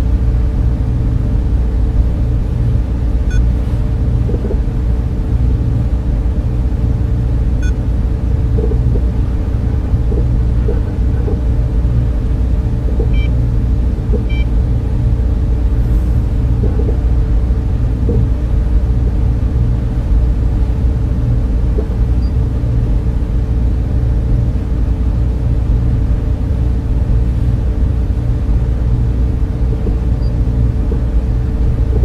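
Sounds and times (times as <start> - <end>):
cooling fans humming: 0.0 - 32.0.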